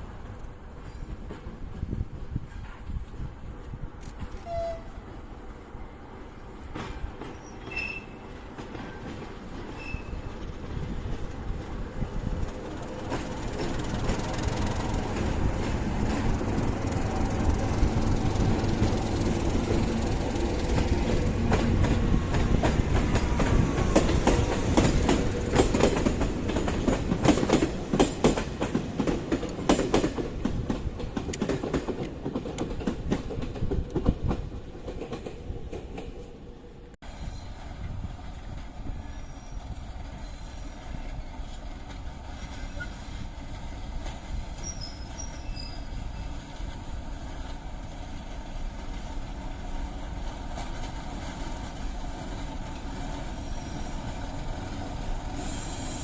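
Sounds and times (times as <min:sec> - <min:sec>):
train passing through station: 0:00.0 - 0:56.0
wheels clicking over rail joints: 0:06.6 - 0:36.3, 0:39.9 - 0:55.3.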